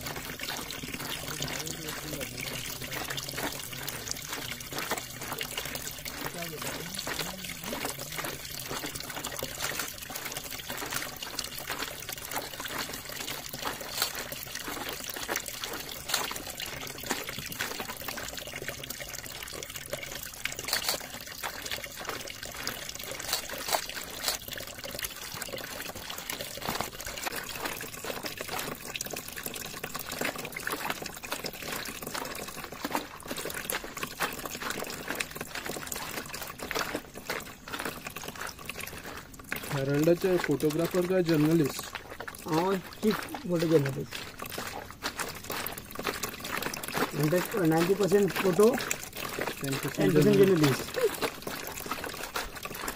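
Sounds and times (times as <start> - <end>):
feet squelching fruit: 0.0 - 52.9
juice trickling: 0.0 - 52.9.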